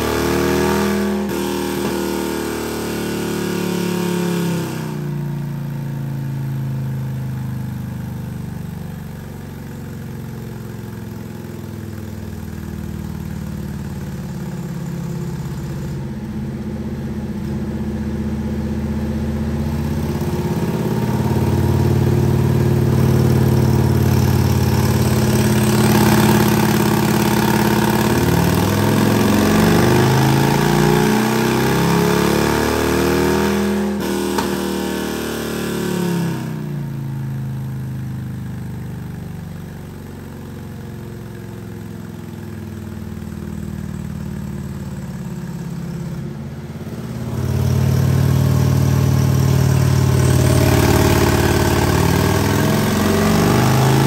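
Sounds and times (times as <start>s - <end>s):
motorcycle engine revving on dyno: 0.0s - 54.0s.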